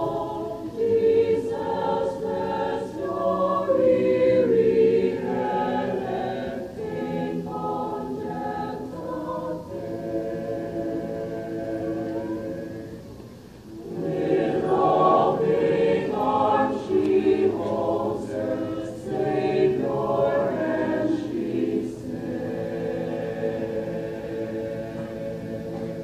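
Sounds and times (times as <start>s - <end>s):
mixed choir singing: 0.0s - 26.0s.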